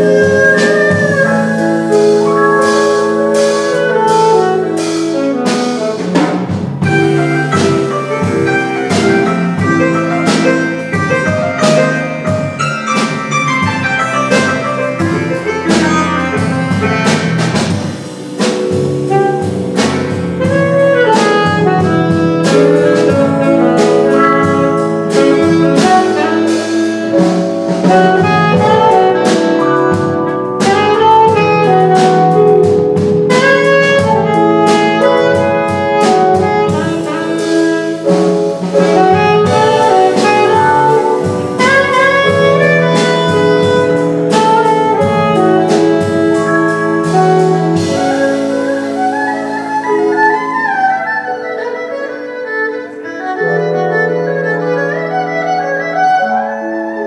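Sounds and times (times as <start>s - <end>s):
drum kit: 0.0s - 56.6s
piano chords: 0.0s - 57.0s
saxophone melody: 0.0s - 57.0s.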